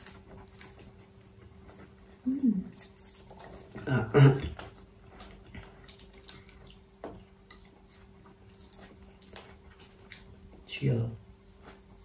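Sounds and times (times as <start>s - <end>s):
soft chewing and mouth smacks: 0.0s - 12.0s.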